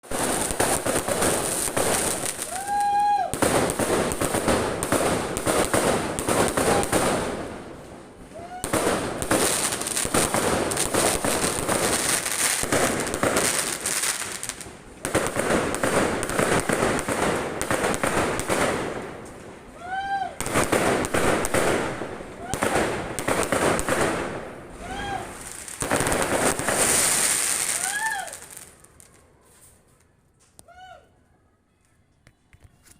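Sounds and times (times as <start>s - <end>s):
fireworks crackling and popping: 0.0s - 30.6s.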